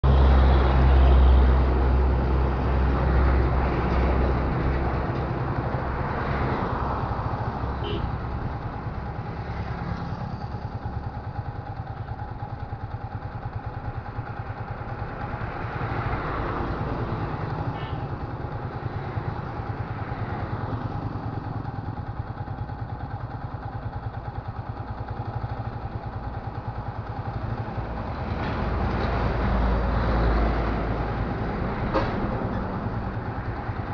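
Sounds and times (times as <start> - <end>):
trucks driving past: 0.0 - 33.9.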